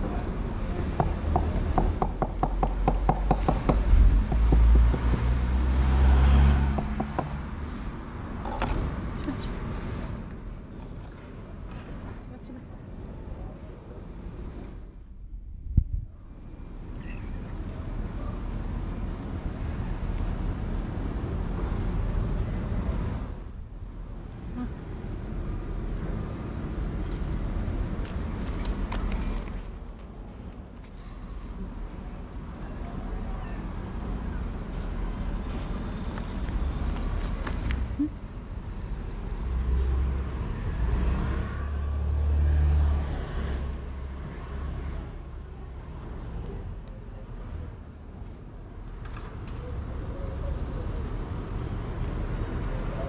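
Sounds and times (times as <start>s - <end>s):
street noise rumble: 0.0s - 53.0s.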